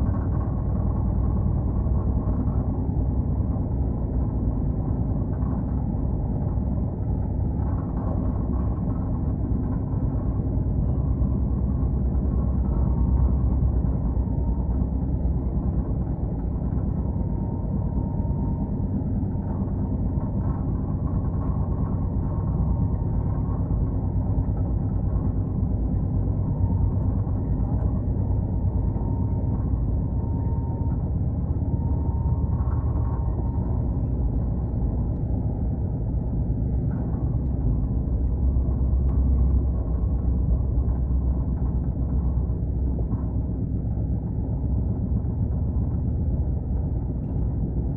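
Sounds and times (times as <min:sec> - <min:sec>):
train rumbling in motion: 0:00.0 - 0:47.9.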